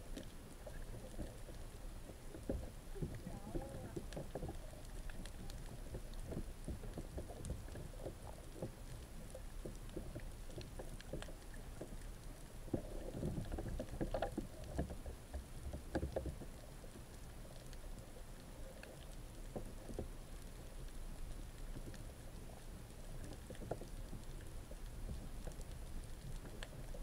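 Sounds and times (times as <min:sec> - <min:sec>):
muffled underwater rumble: 0:00.0 - 0:27.0
small clicks and pops: 0:00.1 - 0:27.0.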